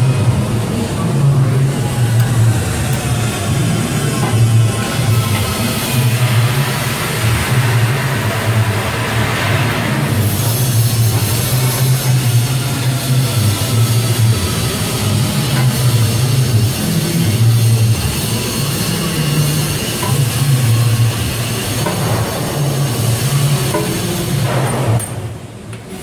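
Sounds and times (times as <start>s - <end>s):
pneumatic impact wrench: 2.0s - 26.0s.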